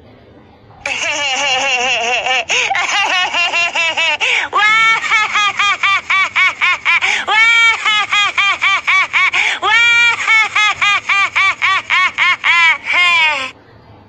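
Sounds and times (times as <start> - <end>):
cartoonish laughing ringtone: 0.8 - 13.5.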